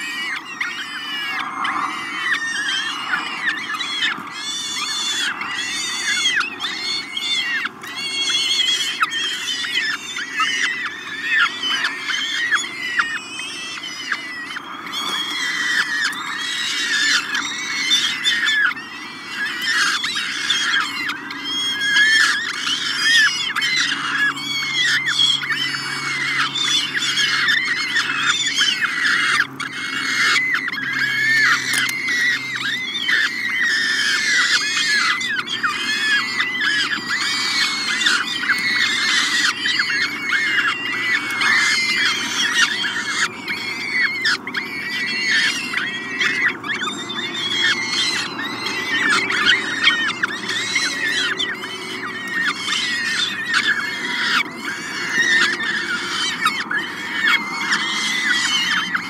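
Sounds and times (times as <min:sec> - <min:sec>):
falcon chicks begging calls: 0:00.0 - 0:59.0.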